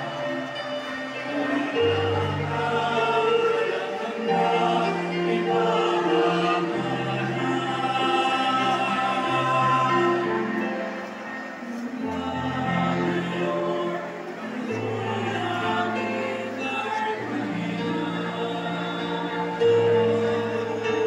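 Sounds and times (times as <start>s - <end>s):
choir singing a slow hymn: 0.0s - 21.0s.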